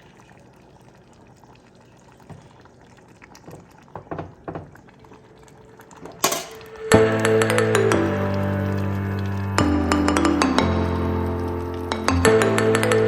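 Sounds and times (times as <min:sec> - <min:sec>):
broth bubbling with small pops: 0:00.0 - 0:12.1.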